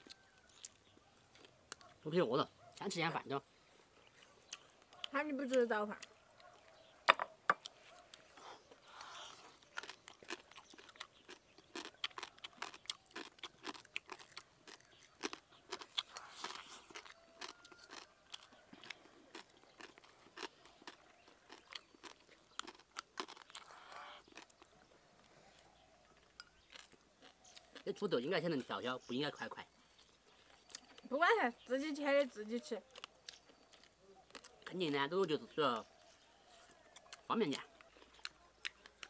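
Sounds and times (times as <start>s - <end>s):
person chewing and crunching: 0.0s - 2.0s, 3.8s - 6.9s, 7.5s - 28.7s, 29.7s - 31.1s, 32.8s - 35.1s, 35.8s - 39.0s.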